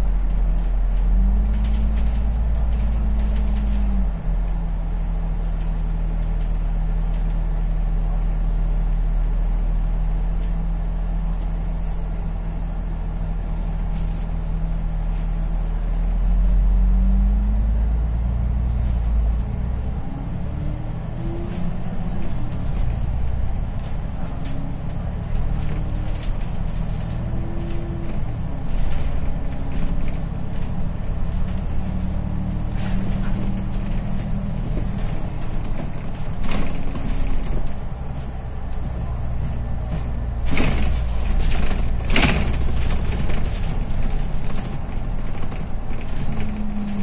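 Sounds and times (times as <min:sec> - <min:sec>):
bus engine drone with whine: 0:00.0 - 0:47.0.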